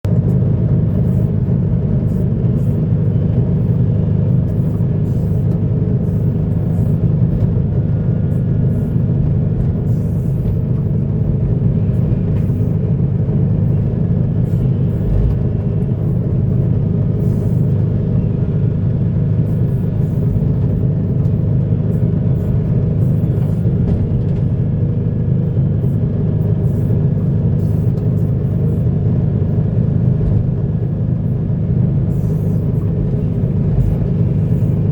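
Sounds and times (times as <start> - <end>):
heavy diesel machinery rumbling: 0.0 - 34.9.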